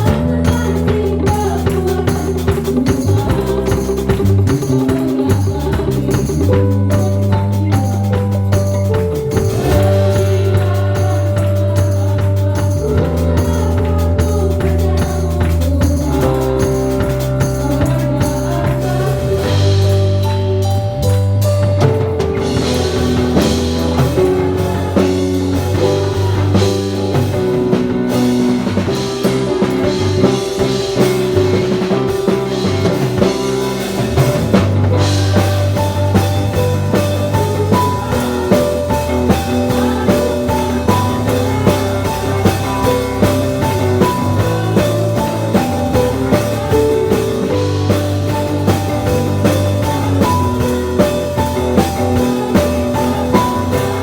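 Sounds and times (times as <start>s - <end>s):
instrumental band music: 0.0s - 54.0s.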